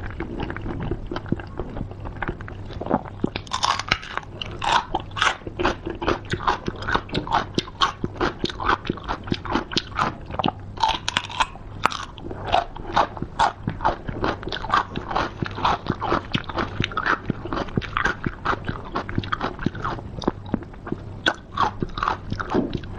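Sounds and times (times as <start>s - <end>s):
wet crunchy chewing of seafood: 0.0s - 22.9s.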